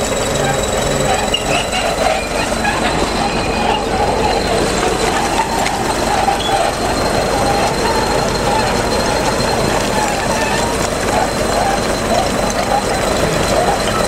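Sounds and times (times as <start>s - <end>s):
diesel engine under load: 0.0s - 14.0s
rubble grinding: 0.0s - 14.0s
steel tracks squealing and clanking: 0.0s - 14.0s.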